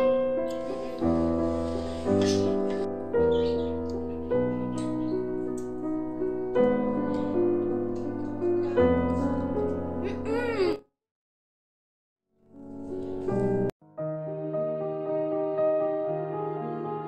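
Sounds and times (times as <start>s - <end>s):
piano chords: 0.0s - 10.8s, 12.4s - 17.0s.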